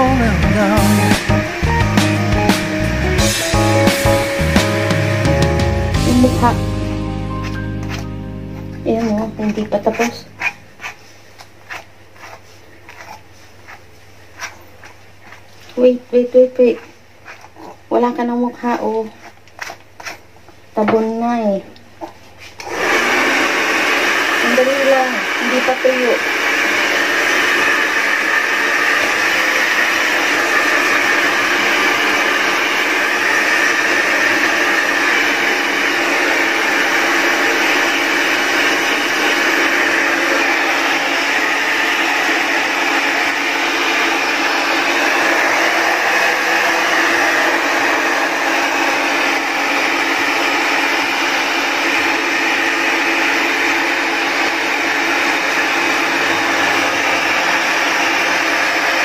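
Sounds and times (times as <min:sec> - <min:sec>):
hair dryer running: 0:00.0 - 0:10.9, 0:22.6 - 0:59.0.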